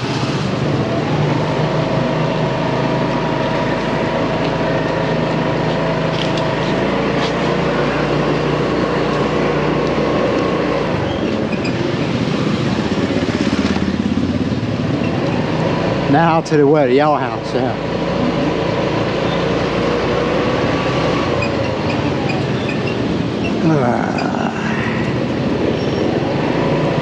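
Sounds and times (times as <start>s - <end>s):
motorcycle engine running: 0.0s - 24.1s
road and traffic noise: 0.0s - 27.0s.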